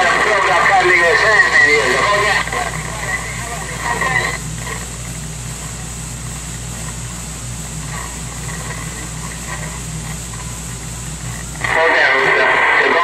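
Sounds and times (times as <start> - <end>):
faint distant radio signals: 0.0 - 13.0
low hum: 0.0 - 13.0
radio static hiss: 0.0 - 13.0.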